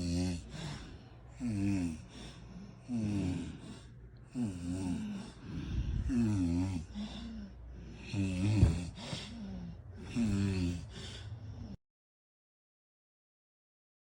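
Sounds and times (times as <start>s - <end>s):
person snoring: 0.0s - 11.8s.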